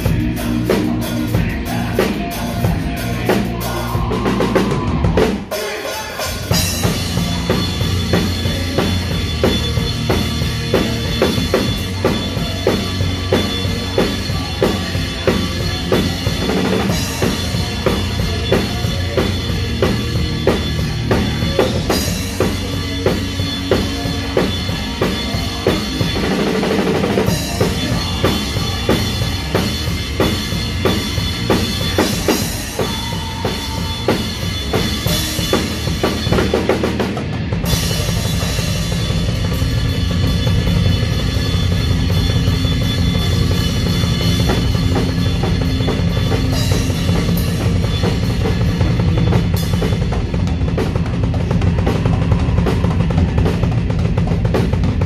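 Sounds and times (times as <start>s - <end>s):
bass guitar: 0.0s - 55.0s
live rock band playing: 0.0s - 55.0s.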